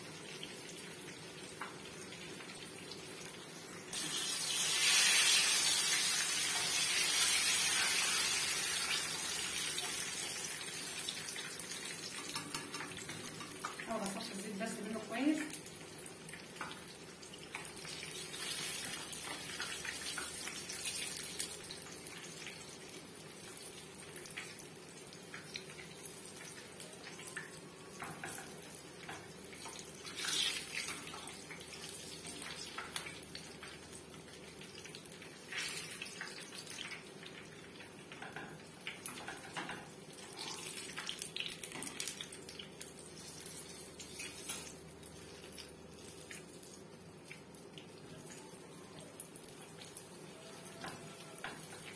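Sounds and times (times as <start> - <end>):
vegetables sizzling in hot oil: 0.0 - 46.4.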